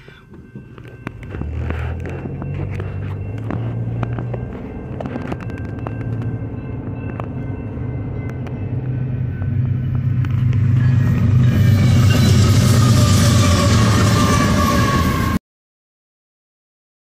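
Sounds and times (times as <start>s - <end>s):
car engine drone: 0.0s - 14.6s
approaching train: 0.0s - 15.4s.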